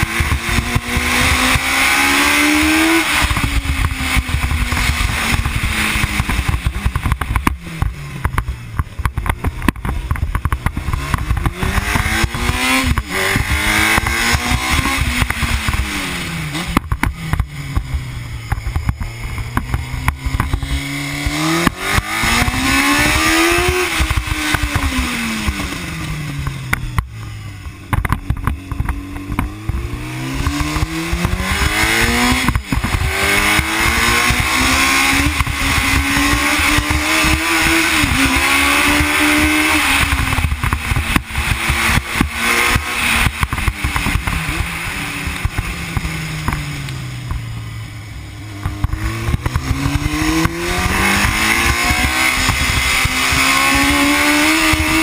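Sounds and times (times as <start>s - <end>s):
racing engine revving: 0.0s - 8.8s, 10.6s - 55.0s
wind noise: 0.0s - 55.0s.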